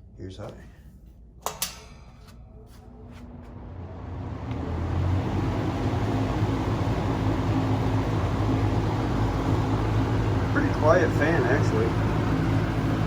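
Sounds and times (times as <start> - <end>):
box fan motor hum: 0.0 - 13.0
fan air rushing: 0.0 - 13.0.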